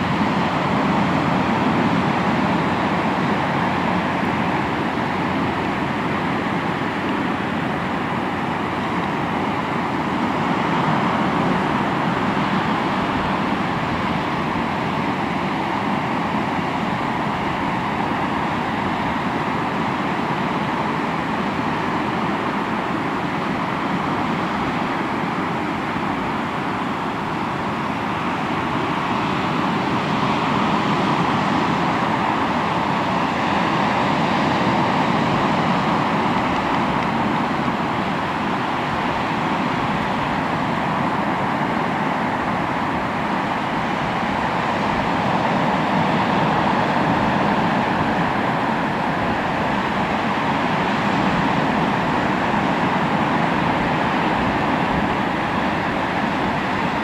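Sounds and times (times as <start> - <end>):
sea waves washing on shore: 0.0 - 57.0.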